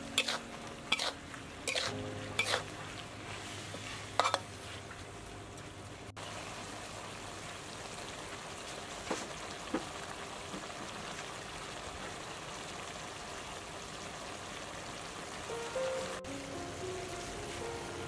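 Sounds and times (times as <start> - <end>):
sauce bubbling and sizzling in a wok: 0.0 - 18.0.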